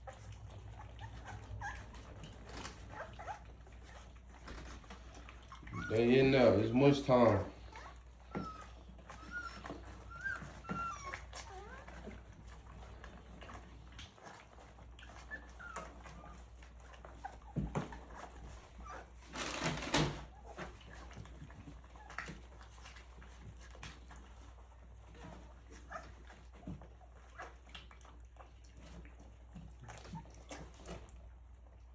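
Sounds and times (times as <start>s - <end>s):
puppies whimpering: 0.0s - 19.4s, 20.2s - 31.9s
puppies eating clicking and smacking: 0.0s - 31.9s.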